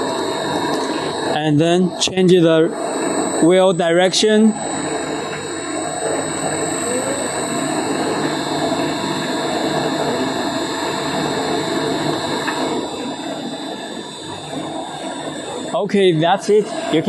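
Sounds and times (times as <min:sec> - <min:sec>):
machine mechanical rumble: 0:00.0 - 0:17.0
thin high whine: 0:00.0 - 0:17.0.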